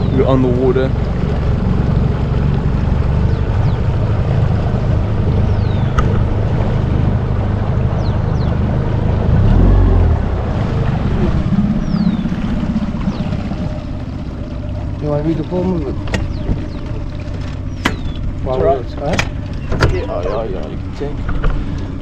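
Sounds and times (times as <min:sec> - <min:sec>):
outboard motor running: 0:00.0 - 0:22.0
water noise: 0:00.0 - 0:22.0
wind: 0:00.0 - 0:22.0.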